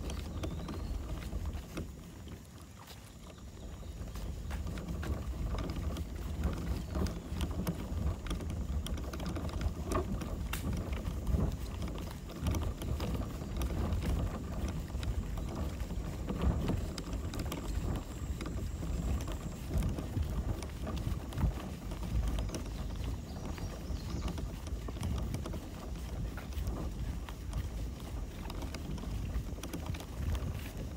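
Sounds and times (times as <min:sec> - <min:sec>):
kayak paddling on water: 0:00.0 - 0:30.9
wind rumble on microphone: 0:00.0 - 0:30.9
light clicks and knocks: 0:04.0 - 0:30.9.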